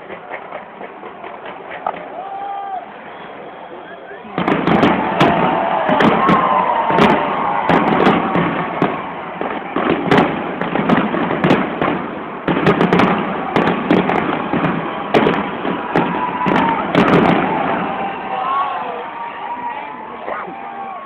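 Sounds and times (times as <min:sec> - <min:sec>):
fireworks bursting: 0:00.0 - 0:20.8.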